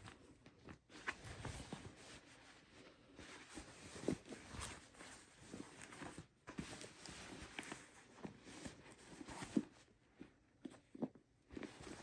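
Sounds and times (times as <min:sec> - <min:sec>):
cloth bag rustling: 0:00.0 - 0:10.0.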